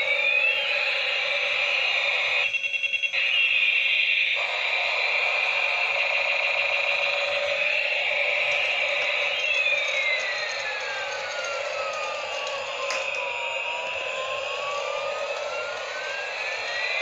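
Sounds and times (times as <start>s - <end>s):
rapid electronic pulses: 0.0s - 17.0s
toy helicopter electronic siren: 0.0s - 17.0s.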